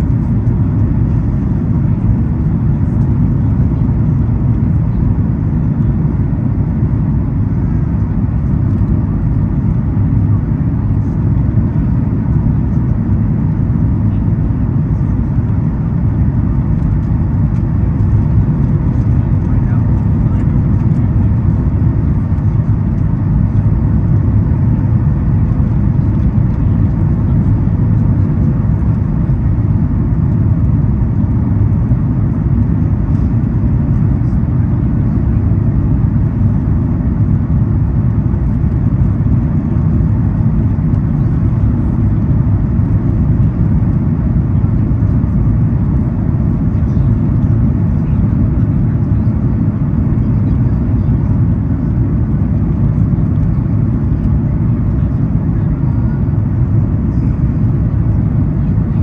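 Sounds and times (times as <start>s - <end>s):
airplane cabin low rumble: 0.0s - 59.0s.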